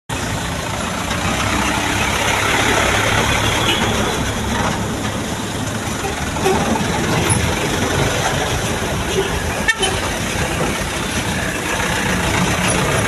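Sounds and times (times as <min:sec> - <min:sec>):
heavy vehicle engine idling: 0:00.1 - 0:13.0.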